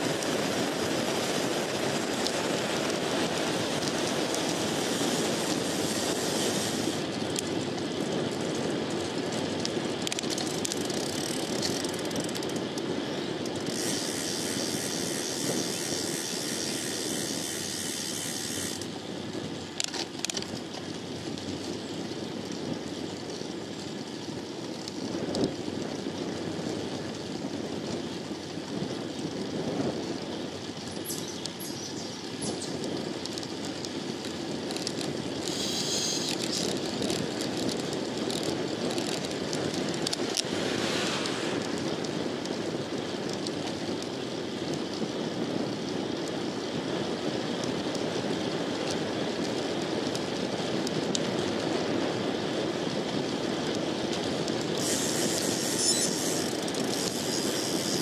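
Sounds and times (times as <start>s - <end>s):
tyres rolling on pavement: 0.0s - 58.0s
wind rushing over microphone: 0.0s - 58.0s.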